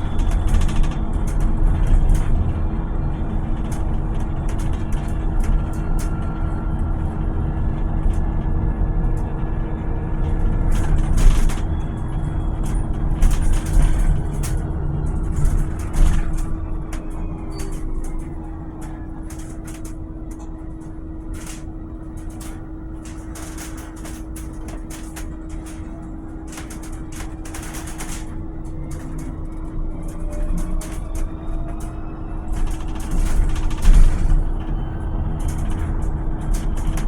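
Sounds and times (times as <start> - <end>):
clicks and rattles: 0.0 - 6.8, 10.2 - 37.0
electric bus humming: 0.0 - 37.0
electric drive whine: 0.0 - 37.0.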